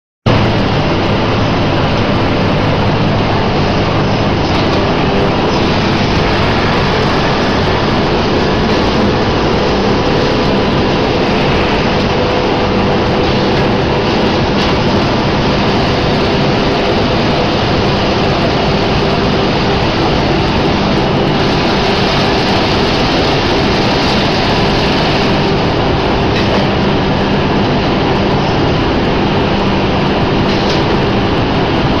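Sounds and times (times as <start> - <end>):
low machine hum: 0.3 - 32.0
packaging machine running: 0.3 - 32.0.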